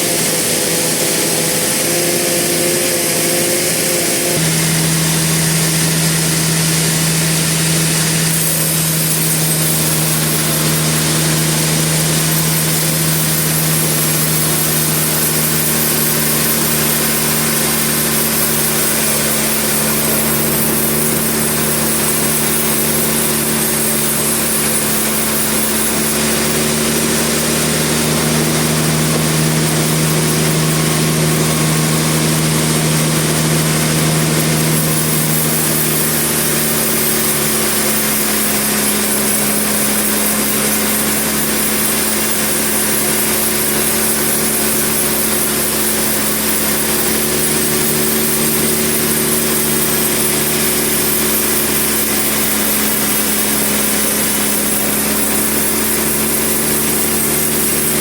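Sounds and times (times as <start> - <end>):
engine-driven saw cutting log: 0.0 - 58.0.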